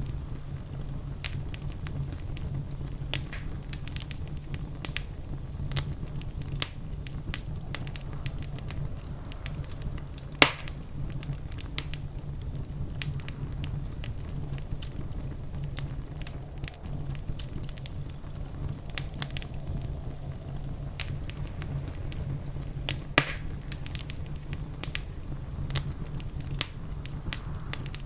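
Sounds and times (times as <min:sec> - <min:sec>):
loud pop of fire: 0:00.0 - 0:28.0
wood fire crackling: 0:00.0 - 0:28.0.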